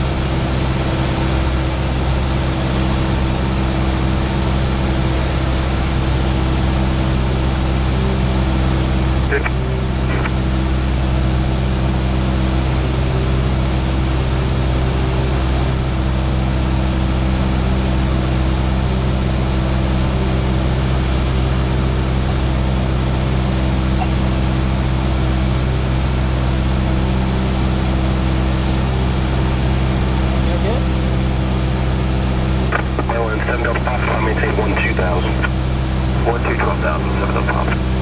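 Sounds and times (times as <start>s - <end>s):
airplane engine drone: 0.0s - 38.0s.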